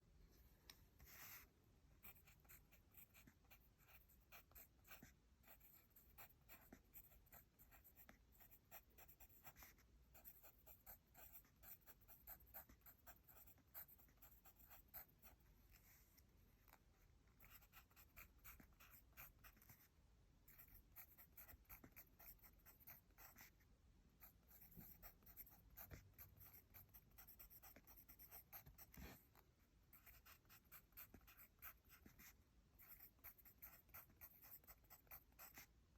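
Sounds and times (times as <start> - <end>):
pencil scratching on paper: 1.0 - 16.0, 17.4 - 19.9, 20.5 - 23.6, 24.2 - 35.8.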